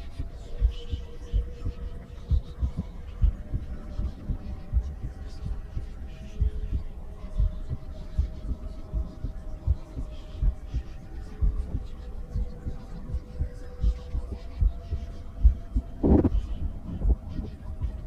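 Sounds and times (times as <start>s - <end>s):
faint steady hum: 0.0s - 18.0s
heartbeat through stethoscope: 0.0s - 18.0s.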